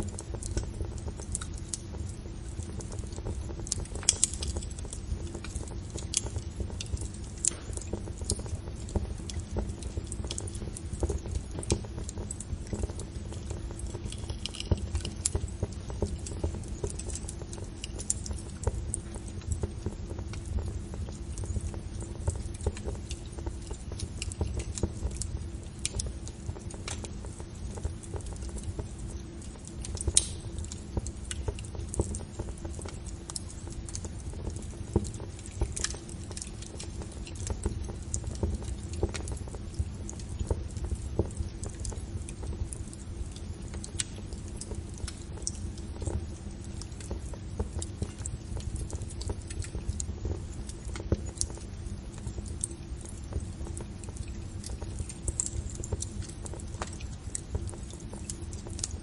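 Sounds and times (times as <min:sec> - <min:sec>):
low noise of flames: 0:00.0 - 0:59.0
wood crackling and popping: 0:00.0 - 0:59.0.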